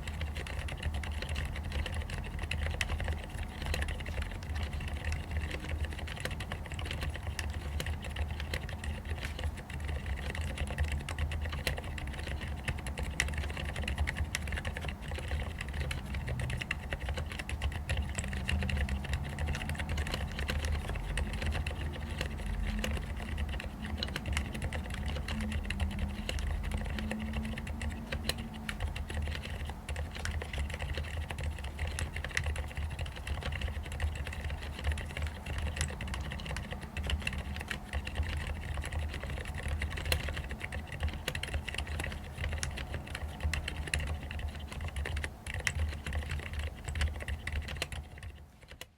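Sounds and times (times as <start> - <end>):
soft mechanical keyboard typing: 0.0 - 48.9.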